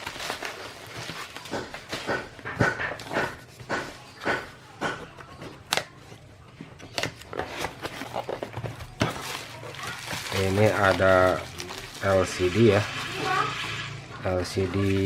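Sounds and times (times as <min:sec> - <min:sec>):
handling noises: 0:00.0 - 0:15.0.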